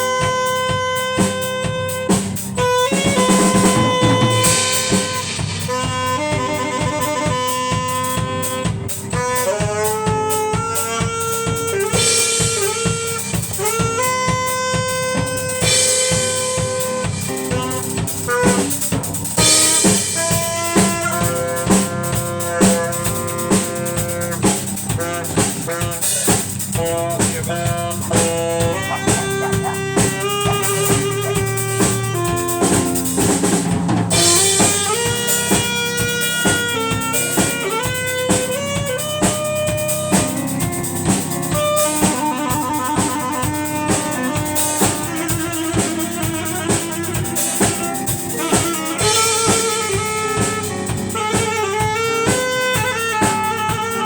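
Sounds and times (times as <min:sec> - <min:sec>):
drum kit beat: 0:00.0 - 0:54.0.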